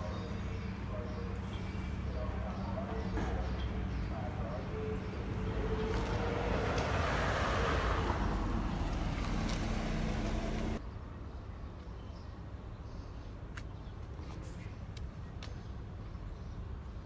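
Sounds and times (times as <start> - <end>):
rush of street traffic: 0.0 - 17.0.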